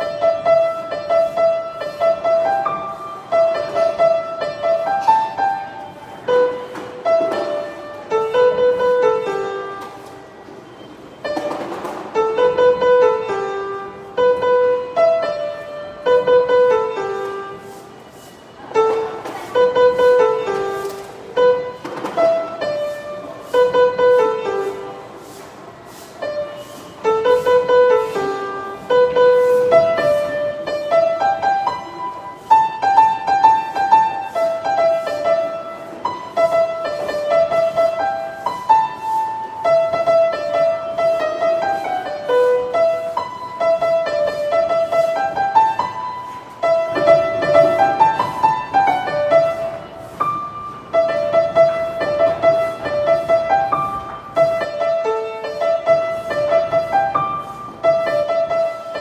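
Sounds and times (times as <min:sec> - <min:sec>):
solo piano bouncy tune: 0:00.0 - 0:25.4, 0:26.1 - 0:59.0.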